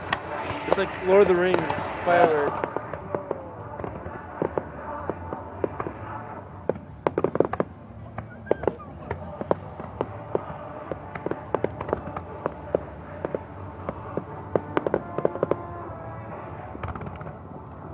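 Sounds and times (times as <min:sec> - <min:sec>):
fireworks popping and crackling: 0:00.0 - 0:17.9.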